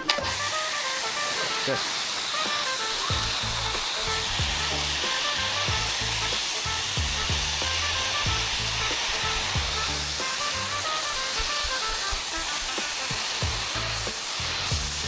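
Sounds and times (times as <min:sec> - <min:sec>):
pressure washer spraying: 0:00.0 - 0:15.0
background music with bass and kick drum: 0:02.4 - 0:15.0.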